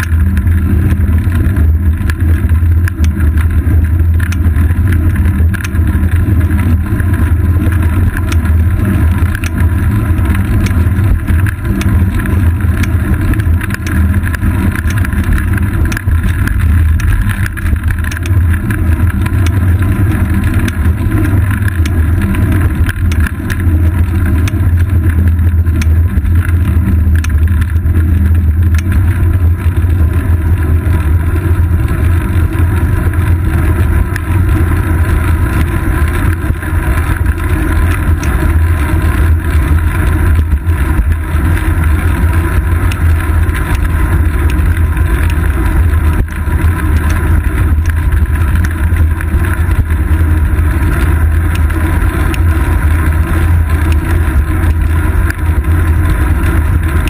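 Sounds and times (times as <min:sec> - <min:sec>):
bicycle ticks and rattles: 0:00.0 - 0:57.0
wind and road rumble: 0:00.0 - 0:57.0.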